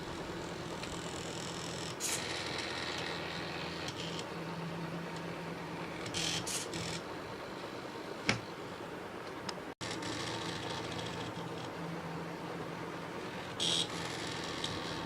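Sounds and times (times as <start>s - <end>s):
small motors humming and buzzing: 0.0s - 7.1s, 9.8s - 15.0s.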